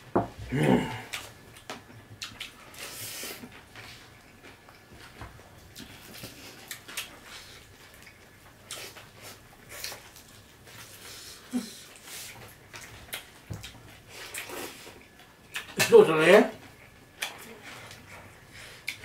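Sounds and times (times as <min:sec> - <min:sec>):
wet chewing and lip-smacking: 0:01.1 - 0:15.8, 0:16.6 - 0:19.0.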